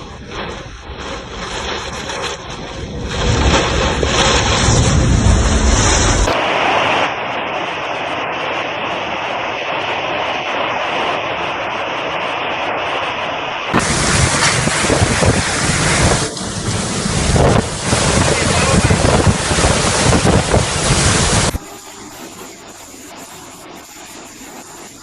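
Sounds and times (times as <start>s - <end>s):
storm wind rushing hiss: 0.0s - 25.0s
wind gusts buffeting microphone: 0.0s - 25.0s.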